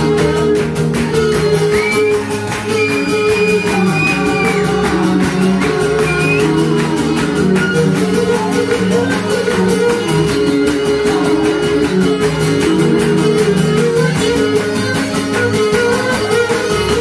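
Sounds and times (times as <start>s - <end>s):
plucked lute accompaniment: 0.0s - 17.0s.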